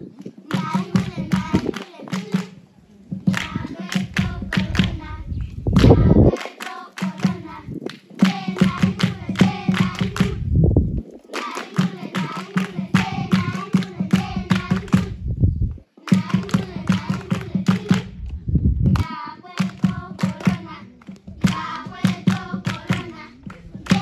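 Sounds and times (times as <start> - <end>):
rhythmic hand clapping: 0.4 - 10.5, 11.3 - 15.2, 16.1 - 18.2, 19.0 - 24.0
group singing: 0.4 - 10.6, 11.3 - 15.2, 16.0 - 18.2, 19.0 - 24.0.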